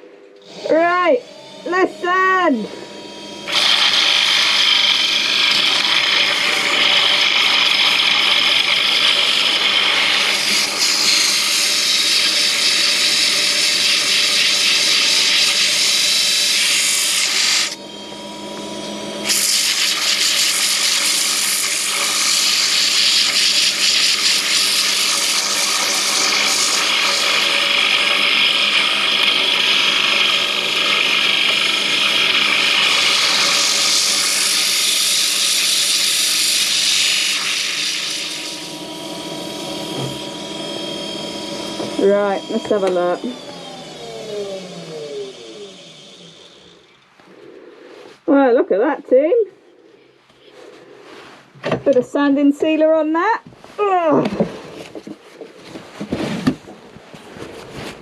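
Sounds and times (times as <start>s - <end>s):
lathe motor hum: 0.0s - 48.0s
wood lathe scraping hiss: 0.4s - 48.4s.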